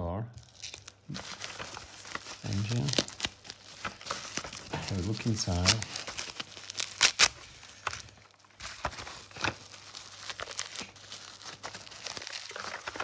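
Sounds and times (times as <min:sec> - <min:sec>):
packaging crinkling and rustling: 0:00.4 - 0:13.0.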